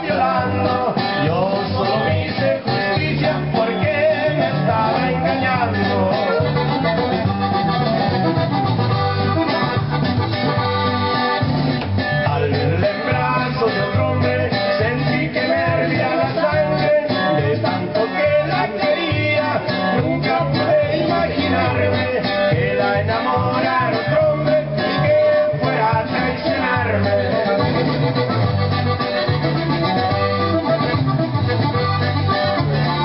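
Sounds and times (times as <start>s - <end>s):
guitar and accordion music: 0.0s - 33.0s
steady bass beat: 0.0s - 33.0s.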